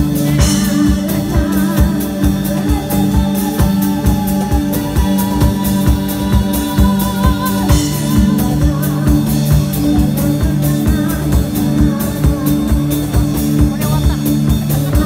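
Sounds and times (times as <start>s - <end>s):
drum kit beat: 0.0s - 15.0s
low keyboard notes: 0.0s - 15.0s
person singing: 0.0s - 15.0s.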